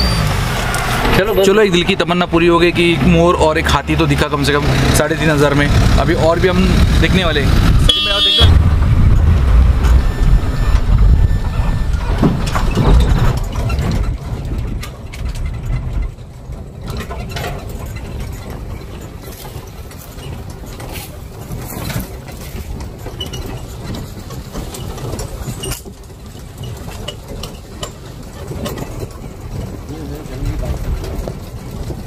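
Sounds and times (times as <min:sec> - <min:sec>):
knocks and rattles: 0:00.0 - 0:32.0
vehicle engine driving on dirt track: 0:00.0 - 0:32.0.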